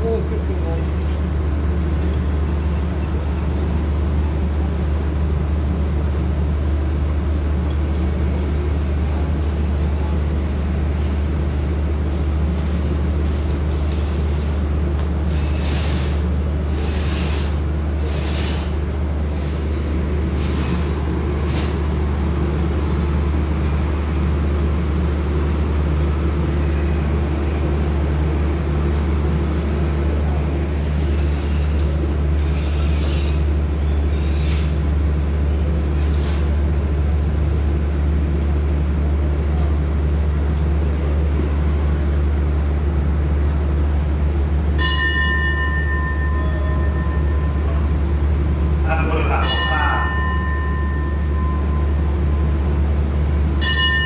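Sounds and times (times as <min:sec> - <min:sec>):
diesel train engine idling: 0:00.0 - 0:54.0.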